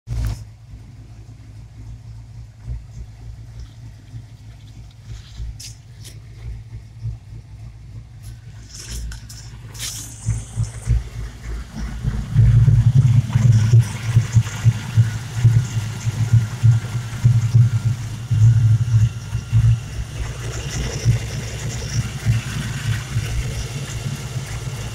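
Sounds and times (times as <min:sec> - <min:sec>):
car engine idling: 0:00.1 - 0:24.9.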